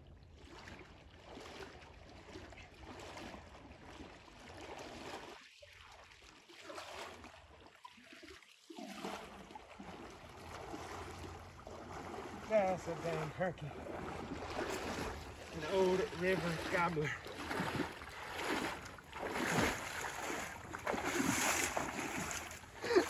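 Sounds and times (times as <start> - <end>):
river water sloshing around legs: 0.0 - 23.0.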